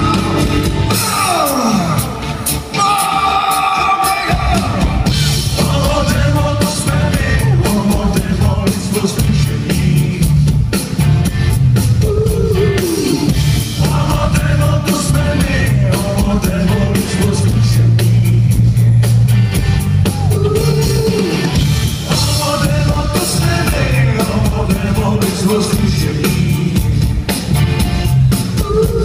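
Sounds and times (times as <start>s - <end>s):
person singing: 0.0s - 10.5s, 11.9s - 18.8s, 20.0s - 27.0s, 28.4s - 29.0s
bass guitar: 0.0s - 29.0s
drum kit: 0.0s - 29.0s.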